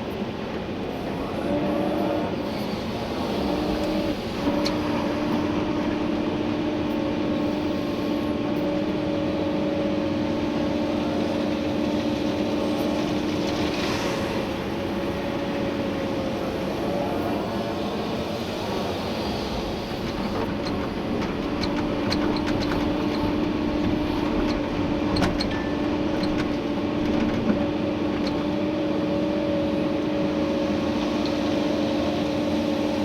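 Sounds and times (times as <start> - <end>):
excavator diesel engine and hydraulics: 0.0 - 33.0.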